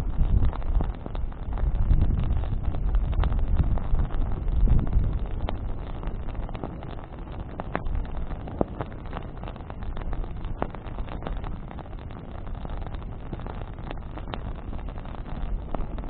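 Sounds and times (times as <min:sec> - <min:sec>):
bonfire flames rushing: 0:00.0 - 0:16.0
fire crackling and popping: 0:00.0 - 0:16.0.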